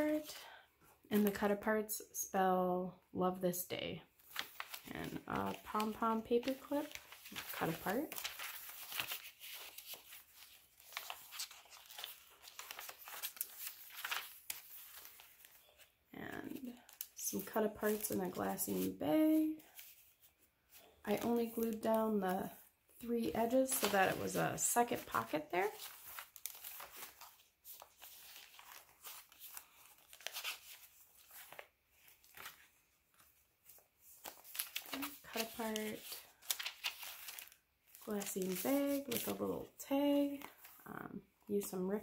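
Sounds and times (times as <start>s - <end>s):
paper rustling and crinkling: 4.2s - 40.8s.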